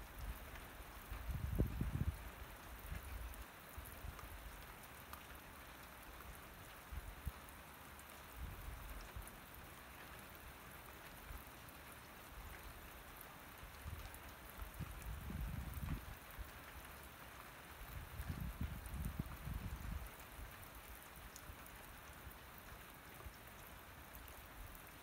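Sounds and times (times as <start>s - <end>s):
faint rain falling: 0.0s - 25.0s.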